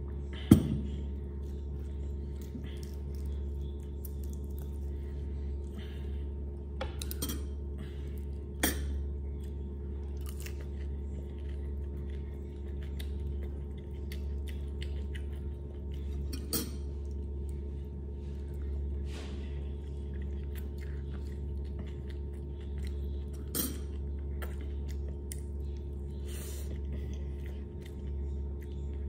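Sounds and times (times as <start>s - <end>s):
steady low hum: 0.0s - 29.0s
person chewing egg: 1.0s - 19.0s, 19.6s - 29.0s.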